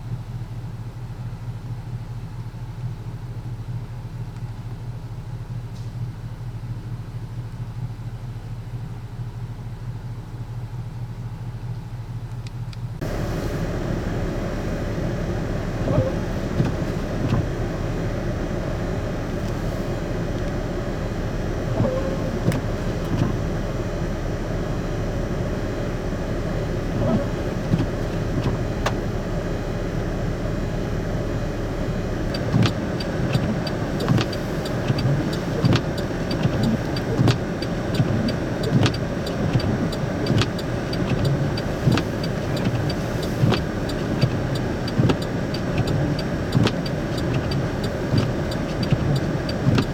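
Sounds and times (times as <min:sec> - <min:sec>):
car driving hum: 0:00.0 - 0:49.9.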